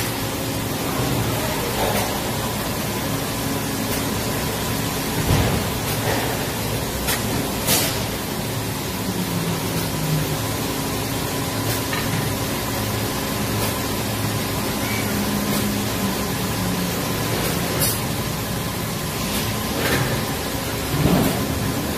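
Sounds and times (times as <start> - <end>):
faint machine hum: 0.0 - 21.9.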